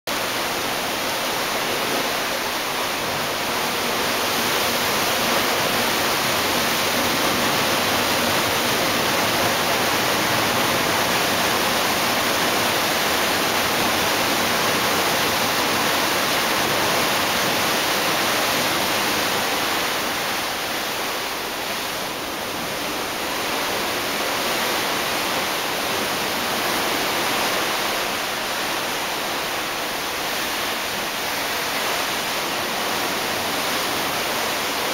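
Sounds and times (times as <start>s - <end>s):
sea water rushing along hull: 0.1s - 34.9s
wind: 0.1s - 34.9s.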